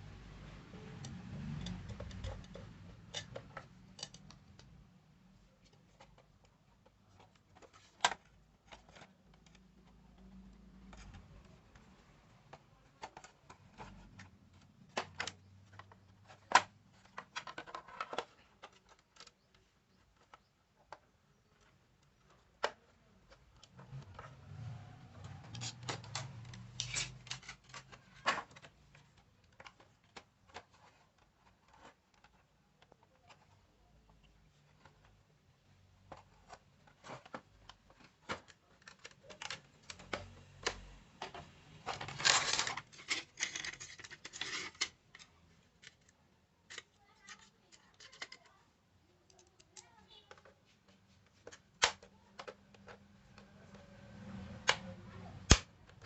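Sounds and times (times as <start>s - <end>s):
clicks and taps handling radio parts: 1.6s - 4.8s, 5.6s - 24.2s, 25.2s - 48.6s, 49.2s - 53.8s.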